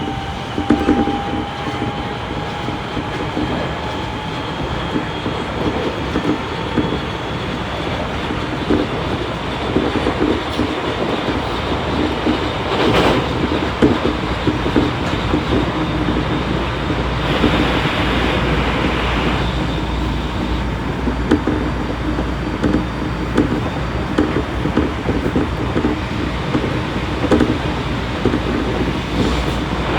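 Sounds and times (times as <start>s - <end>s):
train rolling rumble: 0.0s - 29.9s.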